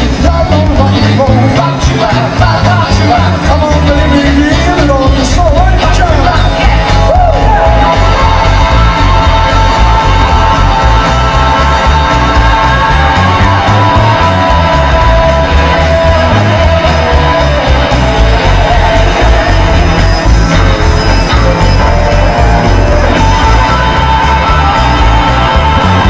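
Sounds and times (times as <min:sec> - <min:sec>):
bass guitar: 0:00.0 - 0:26.0
drums: 0:00.0 - 0:26.0
electric guitars: 0:00.0 - 0:26.0.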